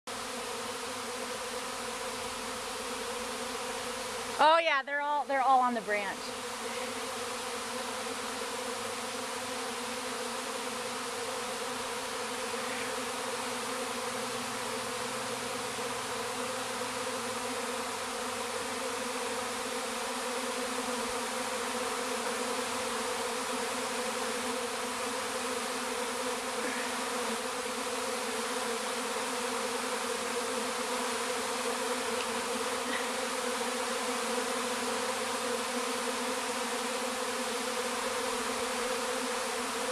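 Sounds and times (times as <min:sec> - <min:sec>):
bee swarm buzzing: 0:00.1 - 0:39.9.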